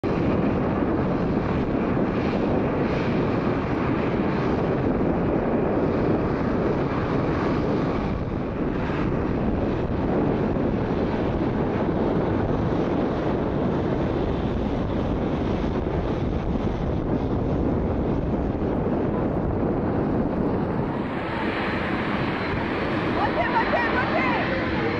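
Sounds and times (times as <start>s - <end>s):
wind buffeting microphone: 0.0s - 24.9s
jet airliner engines taxiing: 0.1s - 24.9s.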